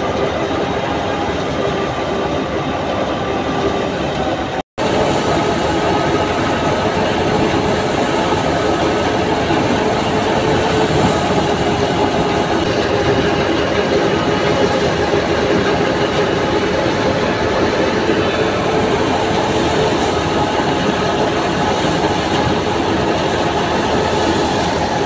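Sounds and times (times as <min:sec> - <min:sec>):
steady hum: 0:00.0 - 0:25.0
thresher mechanical din: 0:00.0 - 0:25.0.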